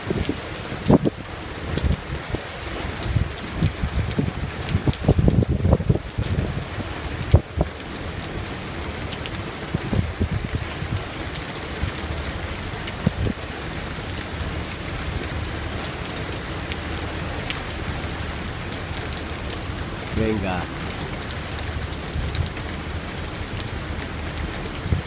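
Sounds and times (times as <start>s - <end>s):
heavy rain on hard surfaces: 0.0s - 25.0s.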